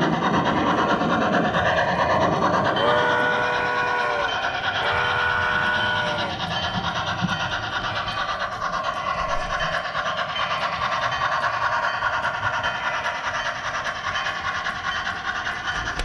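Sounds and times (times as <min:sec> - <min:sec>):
model train wheels whirring: 0:00.0 - 0:16.0
rail joint clicks: 0:00.0 - 0:16.0.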